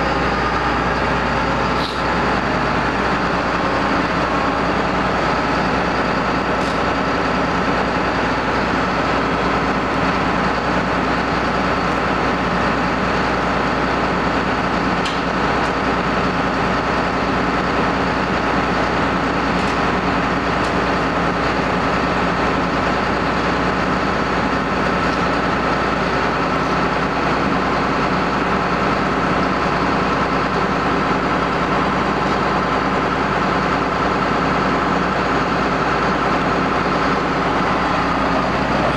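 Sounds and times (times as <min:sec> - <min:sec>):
combine harvester engine drone: 0:00.0 - 0:38.9
high machinery whine: 0:00.0 - 0:38.9.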